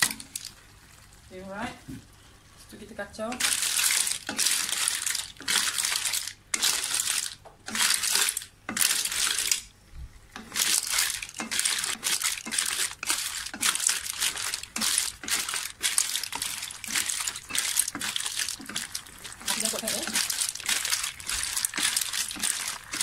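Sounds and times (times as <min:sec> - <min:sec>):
clams clattering against a wok: 0:00.0 - 0:00.6, 0:03.3 - 0:09.7, 0:10.4 - 0:23.0.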